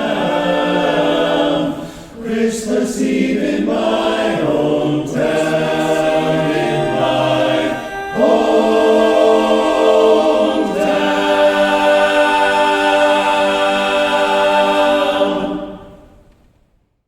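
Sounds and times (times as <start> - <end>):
men's chorus singing a cappella: 0.0 - 16.1.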